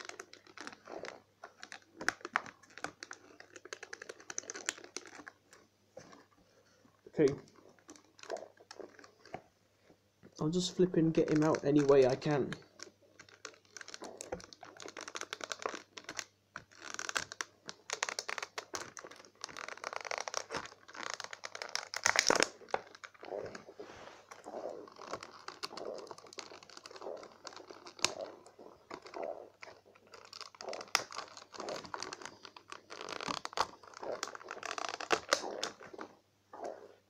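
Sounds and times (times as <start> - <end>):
plastic packaging crinkling: 0.0 - 6.4, 10.4 - 36.8.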